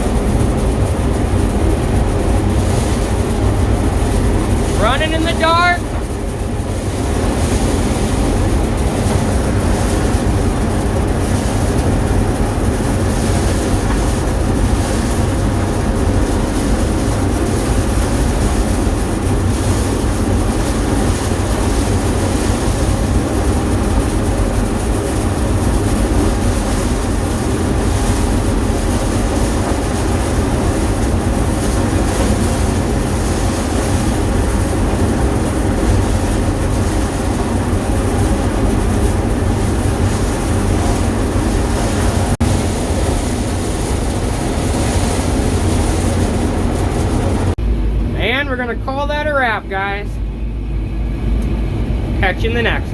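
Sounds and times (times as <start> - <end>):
farm machine engine running: 0.0 - 52.9.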